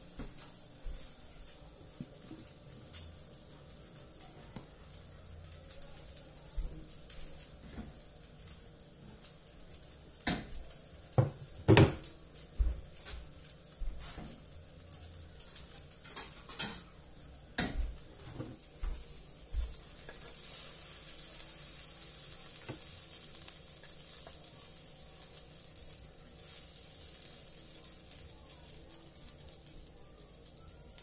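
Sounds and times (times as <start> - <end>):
rice sizzling in wok: 0.0 - 31.0.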